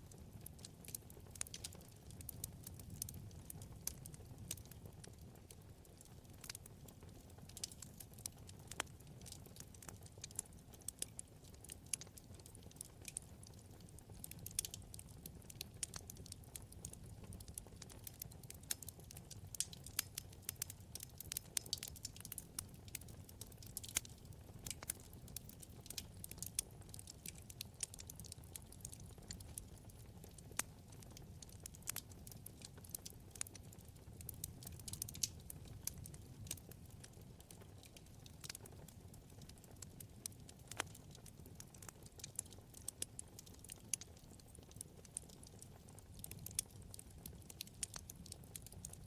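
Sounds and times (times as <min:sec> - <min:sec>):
low rumble of flame: 0:00.0 - 0:49.0
wood fire crackling: 0:00.0 - 0:49.0.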